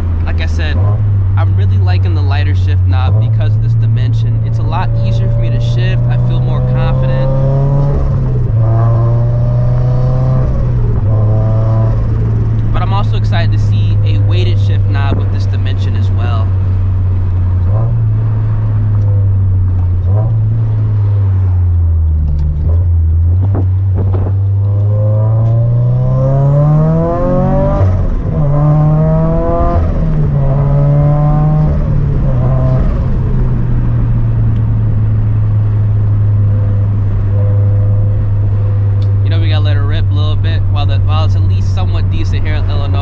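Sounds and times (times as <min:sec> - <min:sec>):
car engine accelerating through gears: 0:00.0 - 0:43.0.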